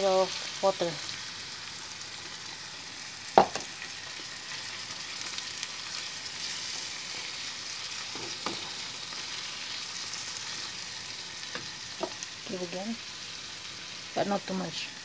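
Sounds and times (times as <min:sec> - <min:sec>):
shrimp sizzling in a pan: 0:00.0 - 0:15.0.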